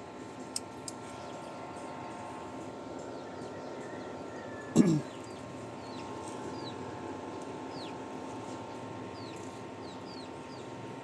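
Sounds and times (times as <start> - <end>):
faint constant hum: 0.0 - 11.0
small birds chirping: 0.3 - 2.3, 2.9 - 11.0.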